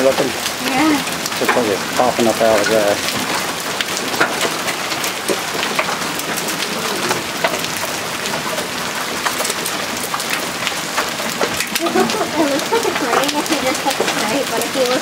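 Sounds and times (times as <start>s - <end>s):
hailstones striking ground: 0.0s - 15.0s
heavy rain hiss: 0.0s - 15.0s.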